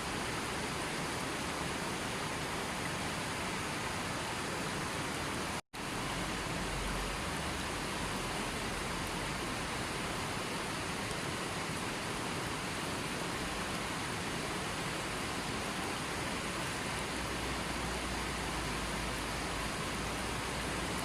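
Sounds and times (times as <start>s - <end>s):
river flowing: 0.0s - 21.0s.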